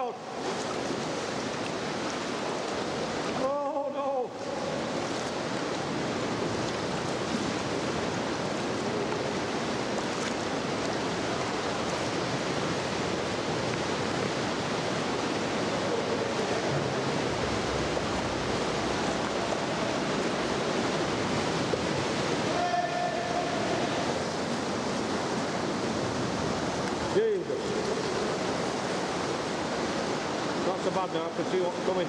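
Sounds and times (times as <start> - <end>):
waves breaking among rocks: 4.4 - 32.0.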